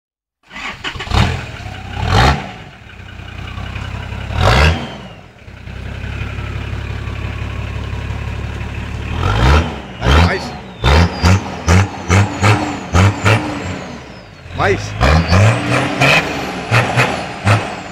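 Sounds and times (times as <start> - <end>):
engine idling and revving: 0.4 - 17.9.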